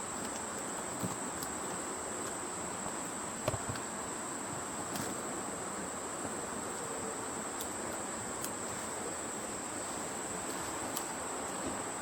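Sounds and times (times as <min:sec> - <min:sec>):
soft background hiss: 0:00.0 - 0:12.0.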